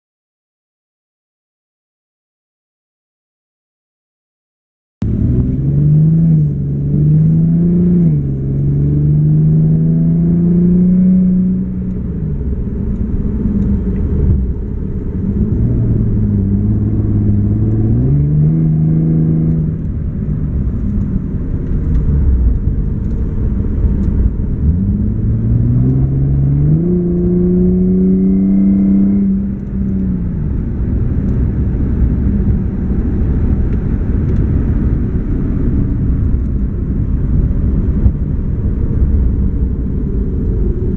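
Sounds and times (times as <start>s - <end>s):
car engine accelerating: 5.0s - 40.9s.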